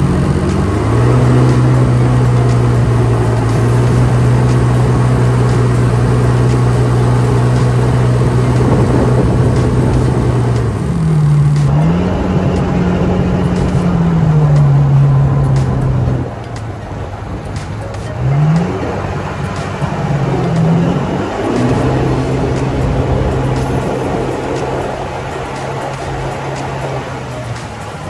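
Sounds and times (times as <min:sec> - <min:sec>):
motor engine running: 0:00.0 - 0:28.0
water noise: 0:00.0 - 0:28.0
wind noise: 0:00.0 - 0:28.0.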